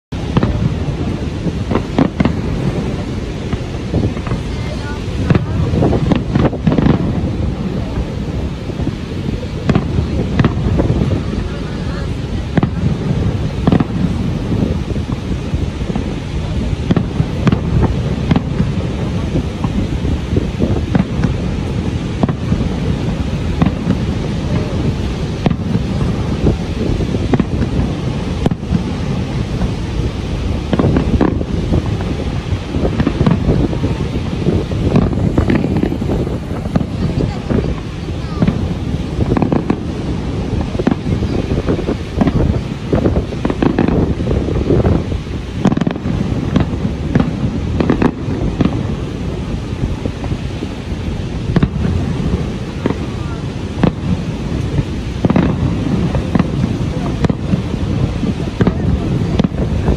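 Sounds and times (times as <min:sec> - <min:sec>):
fireworks bursting: 0:00.0 - 0:59.9
low rumble: 0:00.0 - 0:59.9
waterfall rushing: 0:00.0 - 0:59.9.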